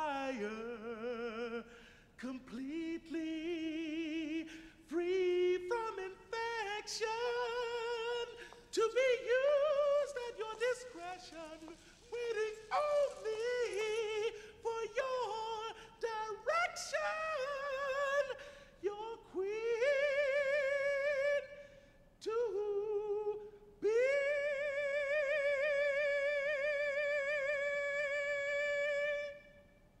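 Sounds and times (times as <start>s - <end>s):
man singing unaccompanied: 0.0s - 21.6s, 22.2s - 29.6s.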